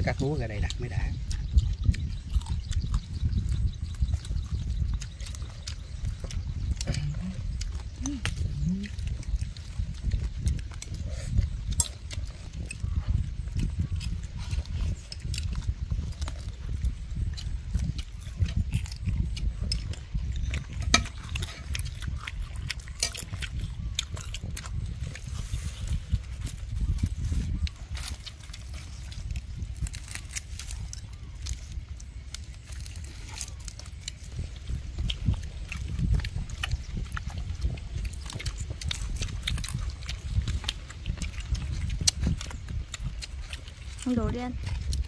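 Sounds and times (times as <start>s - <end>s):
low rumble: 0.0s - 45.0s
person chewing rice: 0.0s - 45.0s.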